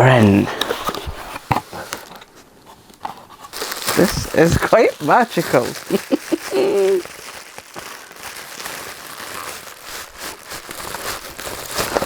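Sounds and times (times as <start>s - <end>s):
packaging crinkling: 0.7s - 12.0s.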